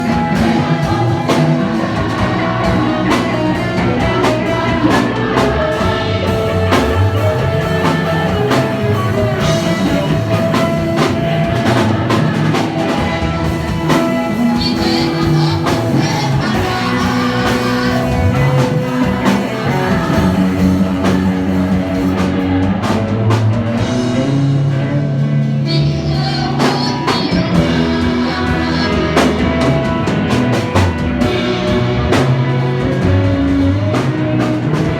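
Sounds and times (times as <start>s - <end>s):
people singing: 0.0s - 24.4s, 25.5s - 34.9s
drum kit: 0.0s - 34.9s
guitar: 0.0s - 34.9s.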